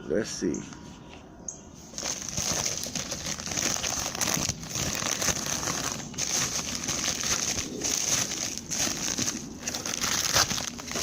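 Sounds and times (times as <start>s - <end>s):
wrapping crinkling and rustling: 1.8s - 11.0s.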